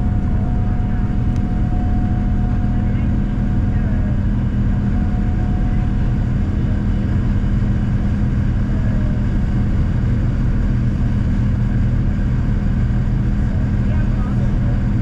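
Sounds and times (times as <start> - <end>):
airliner cabin engine hum: 0.0 - 15.0.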